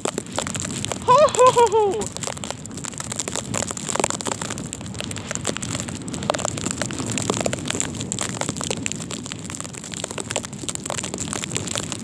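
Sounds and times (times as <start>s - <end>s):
snow ticking on microphone: 0.0s - 12.0s.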